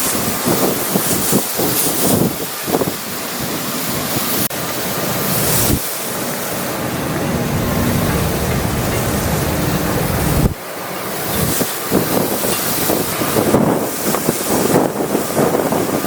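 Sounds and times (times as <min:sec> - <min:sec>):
gale wind buffeting microphone: 0:00.1 - 0:16.0.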